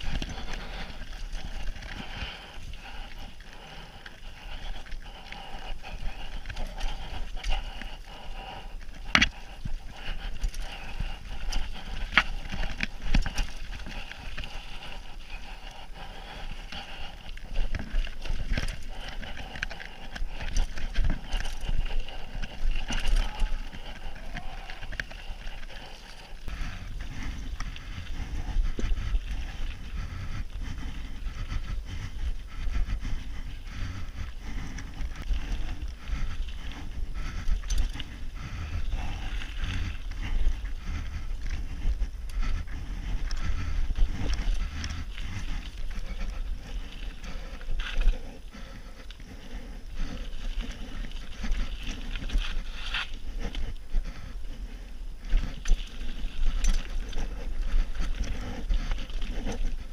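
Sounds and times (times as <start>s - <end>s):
bike tyres on dirt: 0.0s - 59.9s.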